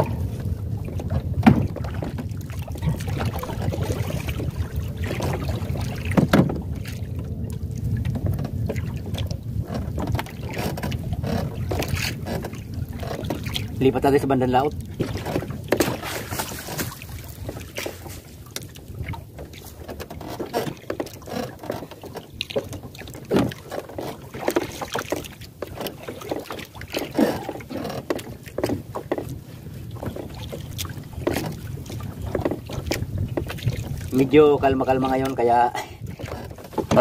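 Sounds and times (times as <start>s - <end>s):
water splashing and dripping: 0.0s - 37.0s
wind and water rumble: 0.0s - 37.0s.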